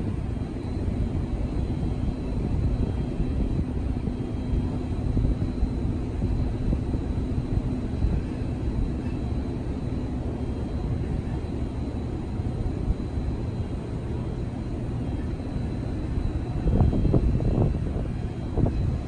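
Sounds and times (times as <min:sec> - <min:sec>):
faint steady hum: 0:00.0 - 0:19.0
low outdoor rumble: 0:00.0 - 0:19.0.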